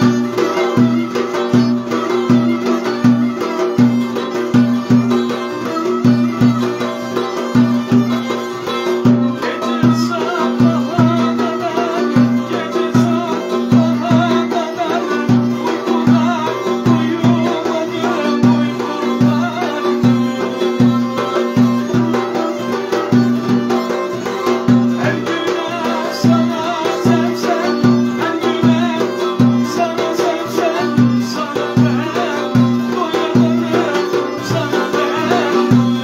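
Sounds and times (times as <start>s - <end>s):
plucked string instrument: 0.0s - 36.0s
violin melody: 0.0s - 36.0s.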